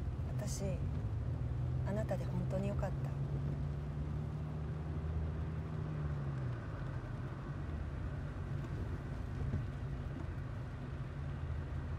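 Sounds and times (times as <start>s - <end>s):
car engine and road drone: 0.0s - 11.9s.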